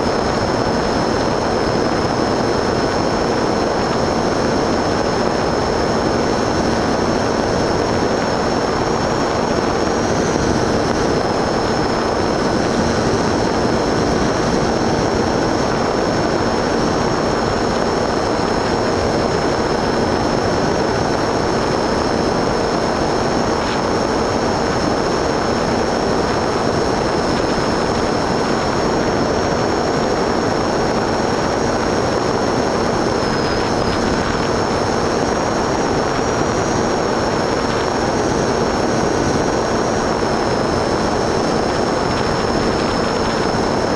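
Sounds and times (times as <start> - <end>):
model aircraft motor and propeller: 0.0 - 43.9
rushing wind: 0.0 - 43.9
thin high whine: 0.0 - 43.9.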